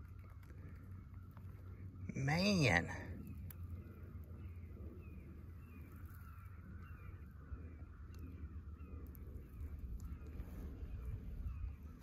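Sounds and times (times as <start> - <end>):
faint low rumble: 0.0 - 12.0
bird calling with falling notes: 0.8 - 12.0.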